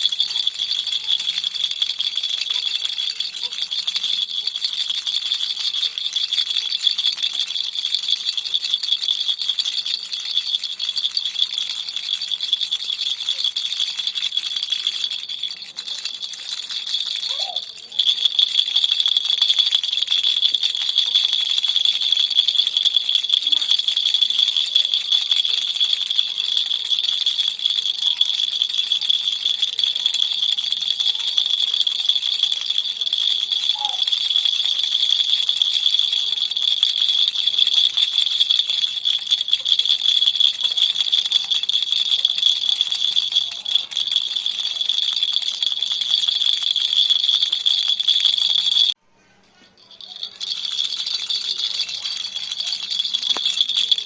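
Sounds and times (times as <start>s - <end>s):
toy rattle shaken: 0.0s - 54.0s.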